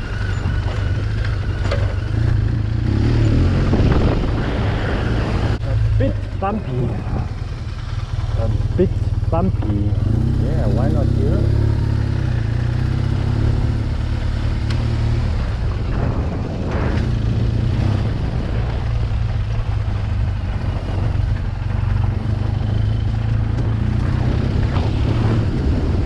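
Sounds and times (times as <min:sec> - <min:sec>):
motorcycle engine running at low speed: 0:00.0 - 0:26.0.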